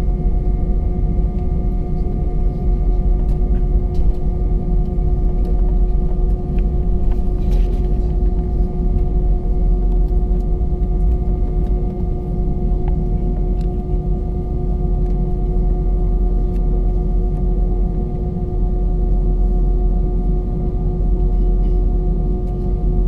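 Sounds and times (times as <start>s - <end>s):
jet engines rumbling in cabin: 0.0s - 23.0s.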